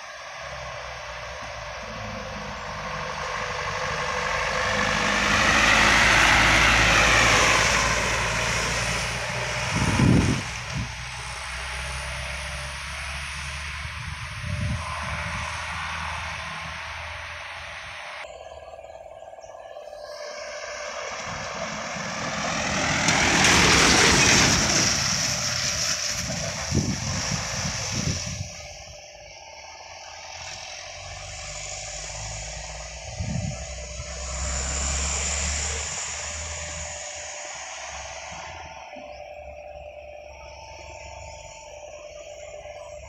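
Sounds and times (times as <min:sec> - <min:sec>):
trucks driving past: 0:00.0 - 0:43.0.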